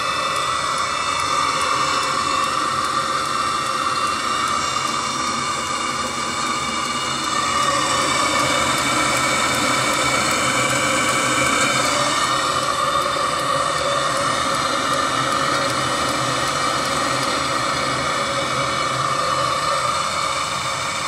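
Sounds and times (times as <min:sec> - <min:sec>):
heater fan whine: 0:00.0 - 0:21.0.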